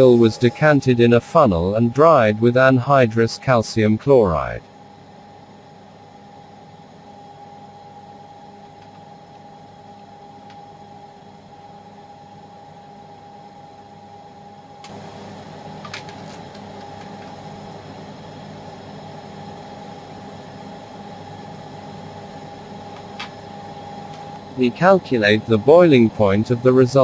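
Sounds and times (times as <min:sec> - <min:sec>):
mechanical hum with whine: 0:00.0 - 0:27.0.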